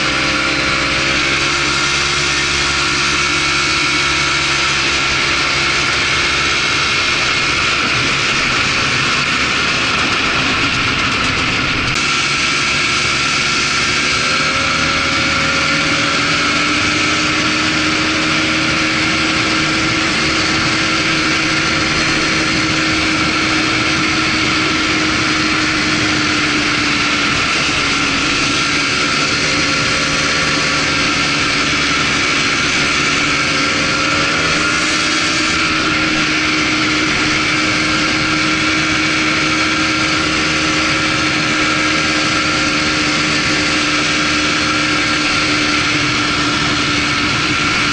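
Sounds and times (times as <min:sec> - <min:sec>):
atv engine running: 0:00.0 - 0:47.9
steady rushing noise: 0:00.0 - 0:47.9.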